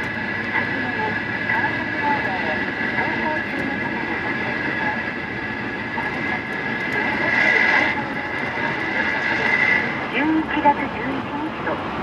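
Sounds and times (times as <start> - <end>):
steady high hum: 0.0 - 12.0.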